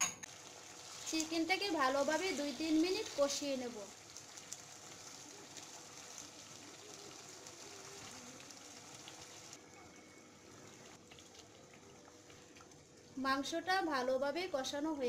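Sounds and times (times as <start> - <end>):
chicken frying in oil: 0.3 - 15.0.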